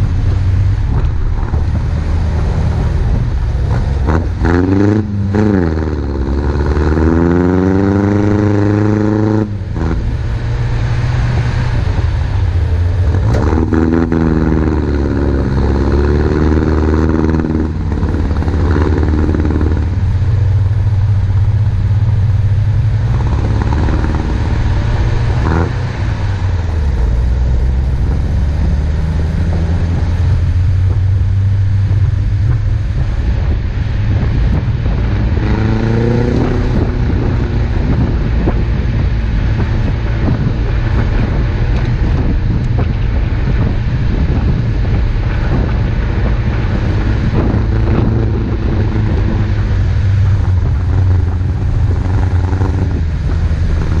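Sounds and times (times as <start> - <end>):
off-road vehicle engine droning: 0.0 - 54.0.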